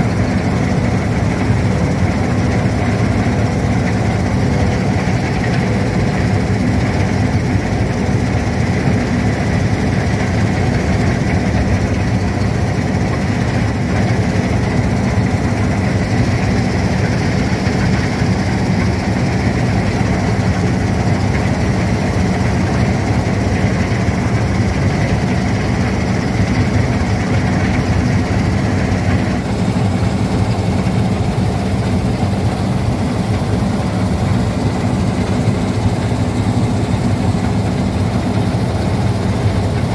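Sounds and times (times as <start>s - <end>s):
combine harvester engine droning: 0.0s - 39.9s
thin steady whine: 0.0s - 39.9s.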